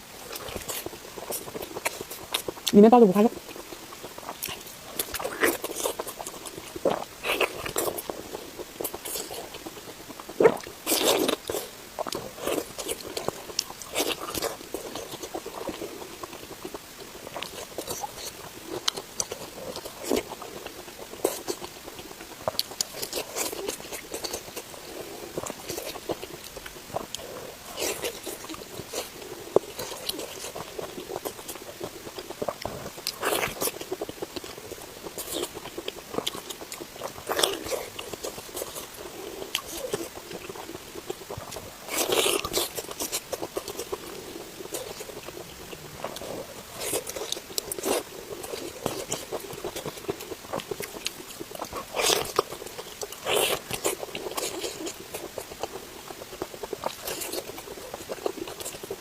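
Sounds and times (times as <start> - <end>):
person chewing and biting: 0.2 - 2.7, 3.4 - 59.0
wet mouth clicks and crunches: 3.9 - 59.0.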